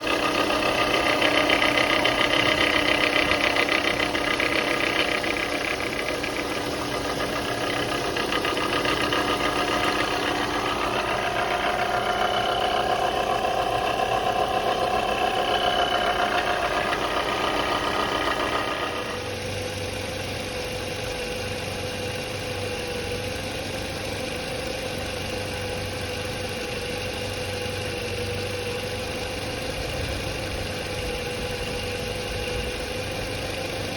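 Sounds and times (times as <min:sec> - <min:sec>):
alternator grinding and whining: 0:00.0 - 0:33.9
car engine running roughly: 0:00.0 - 0:33.9.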